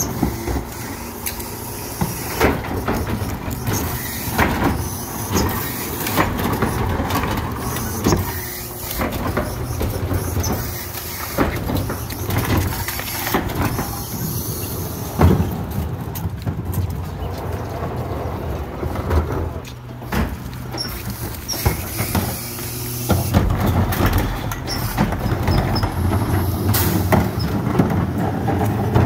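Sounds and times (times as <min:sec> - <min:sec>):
garbage truck engine rumble: 0:00.0 - 0:29.0
knocks and clanks: 0:00.0 - 0:29.0.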